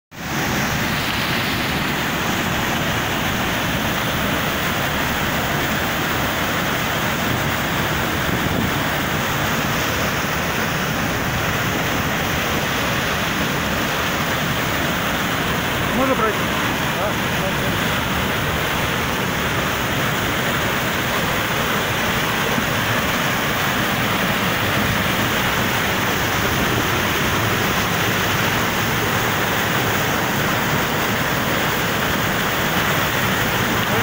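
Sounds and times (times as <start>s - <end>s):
waterfall rushing: 0.1s - 34.0s.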